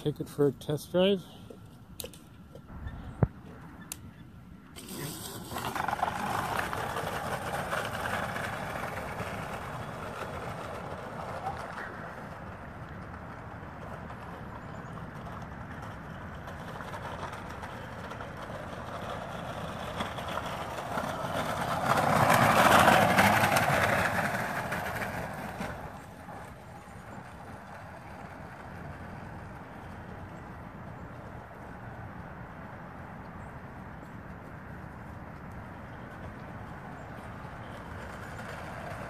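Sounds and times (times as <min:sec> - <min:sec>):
electric scooter rolling past: 0:02.7 - 0:39.0.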